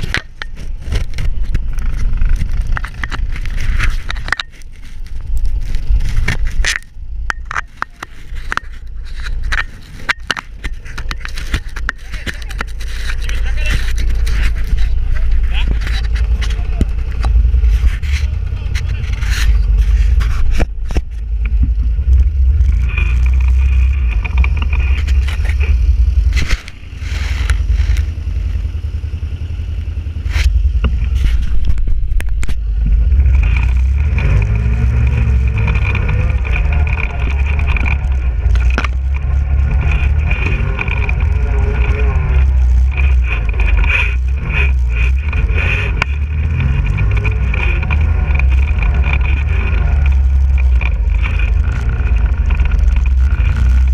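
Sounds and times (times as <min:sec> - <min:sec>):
atv engine running: 0:00.0 - 0:53.9
steady high whine: 0:00.0 - 0:53.9
wind rumble on microphone: 0:00.0 - 0:53.9.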